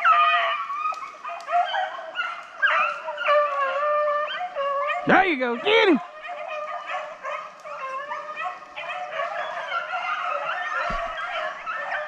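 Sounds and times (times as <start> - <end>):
hounds baying and howling: 0.0 - 12.0.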